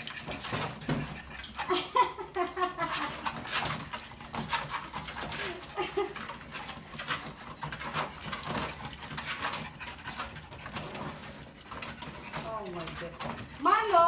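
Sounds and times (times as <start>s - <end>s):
paws clicking on treadmill belt: 0.0s - 14.0s.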